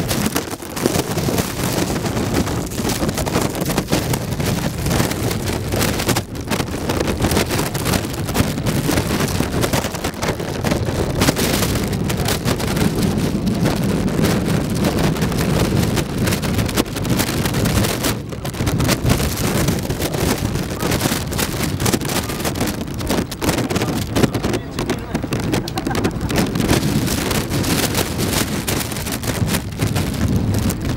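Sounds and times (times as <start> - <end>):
wind blowing across microphone: 0.0 - 30.9.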